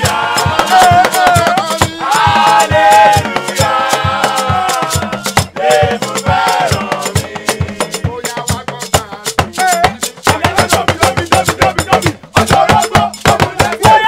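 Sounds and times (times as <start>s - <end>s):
hand drums: 0.0s - 14.0s
men singing together: 0.0s - 14.0s.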